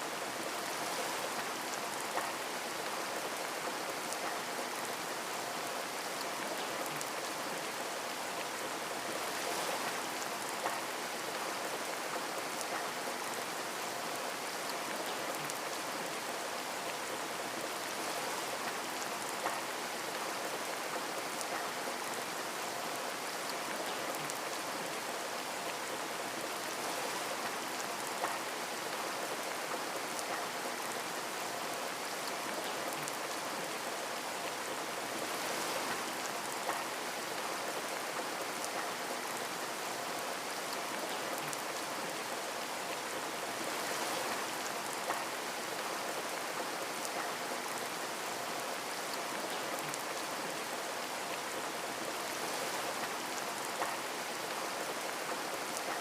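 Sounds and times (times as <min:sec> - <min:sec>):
rain pattering on a window: 0:00.1 - 0:56.0.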